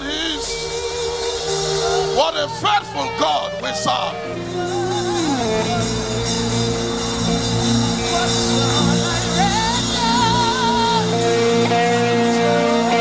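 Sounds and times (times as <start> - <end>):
person singing melody: 0.0 - 13.0
sustained keyboard chords: 0.0 - 13.0.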